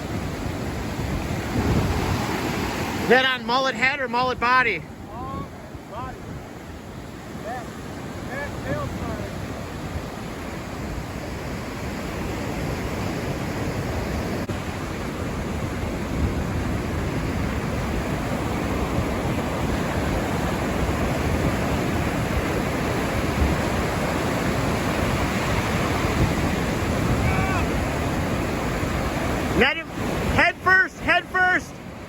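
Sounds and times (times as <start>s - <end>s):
wind blowing across microphone: 0.0s - 31.1s
ocean surf breaking: 0.0s - 32.0s.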